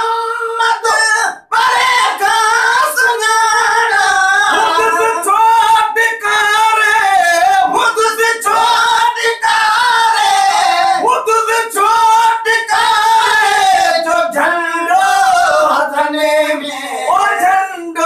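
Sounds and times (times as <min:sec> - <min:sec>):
men singing unaccompanied: 0:00.0 - 0:18.0.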